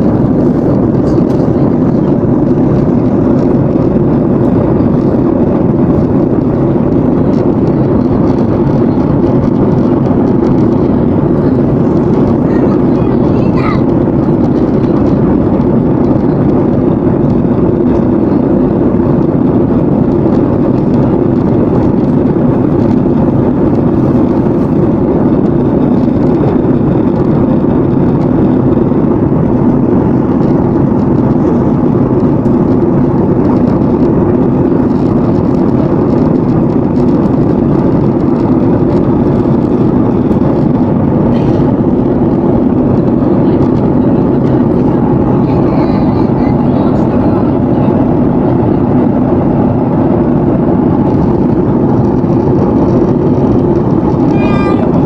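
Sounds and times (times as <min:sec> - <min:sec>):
jet engine cabin drone: 0:00.0 - 0:55.0.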